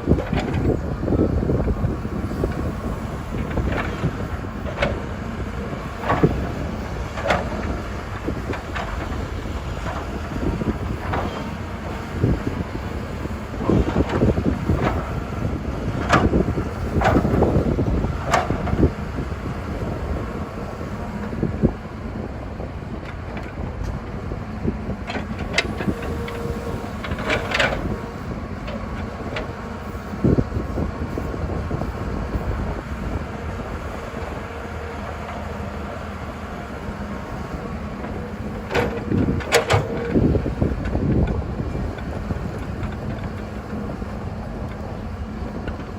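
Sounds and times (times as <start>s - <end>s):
excavator diesel engine rumbling: 0.0s - 45.9s.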